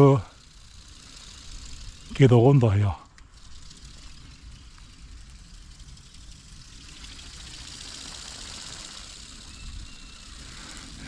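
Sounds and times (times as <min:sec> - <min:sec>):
toy motor and wings whirring: 0:00.0 - 0:11.0.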